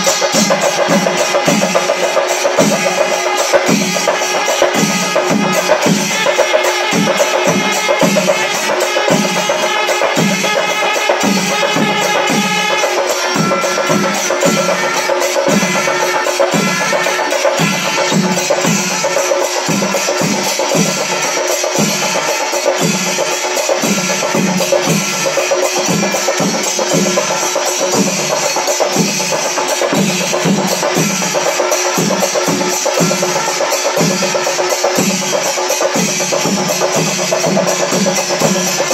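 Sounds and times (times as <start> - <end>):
hand cymbals clashing: 0.0 - 38.9.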